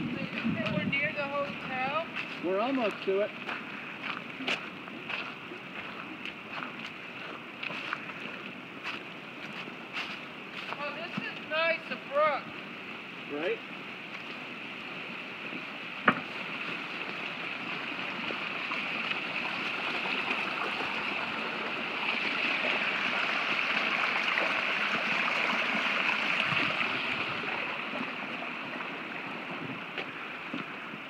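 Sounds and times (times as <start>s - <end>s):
brook trickling over rocks: 0.0s - 31.0s.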